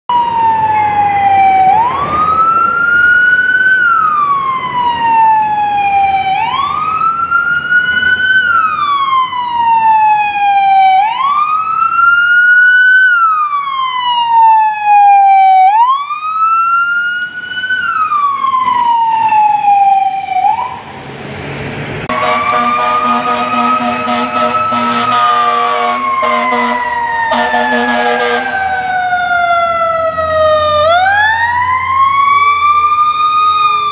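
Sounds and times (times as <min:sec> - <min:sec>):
emergency vehicle siren wailing: 0:00.1 - 0:33.9.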